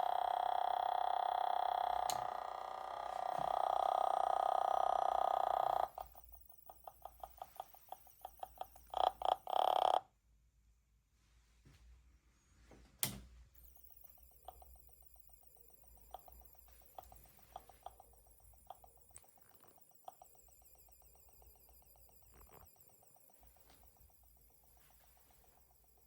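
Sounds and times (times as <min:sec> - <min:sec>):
high warbling whine: 0:00.0 - 0:09.2, 0:13.6 - 0:26.0
rapid rhythmic electronic buzz: 0:00.0 - 0:10.0, 0:13.6 - 0:26.0.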